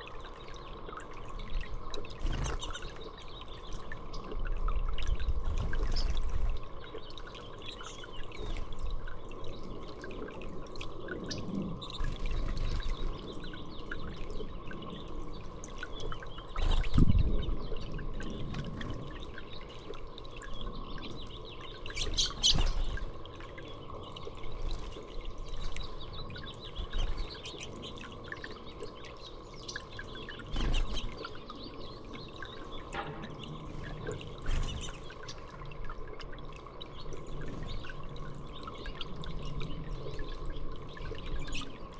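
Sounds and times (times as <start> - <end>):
faint steady hum: 0.0 - 41.9
songbirds chirping: 0.0 - 41.9.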